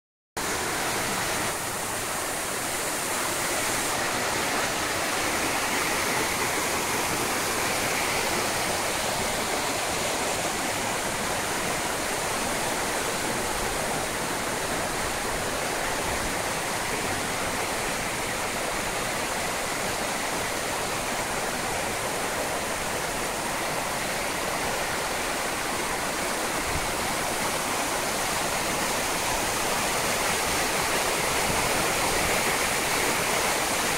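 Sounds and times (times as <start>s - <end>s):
floodwater rushing: 0.4s - 33.9s.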